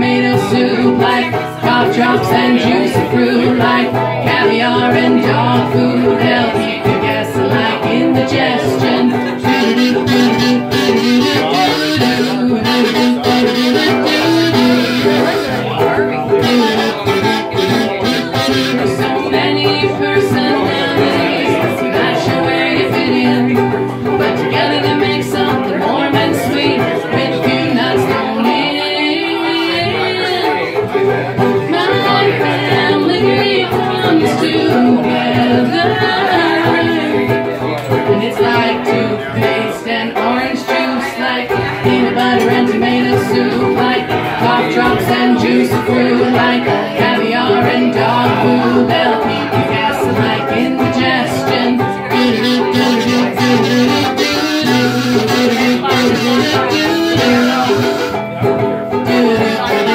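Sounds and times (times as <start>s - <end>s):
acoustic guitar strumming: 0.0s - 59.9s
banjo ukulele strumming: 0.0s - 59.9s
women singing: 0.0s - 59.9s.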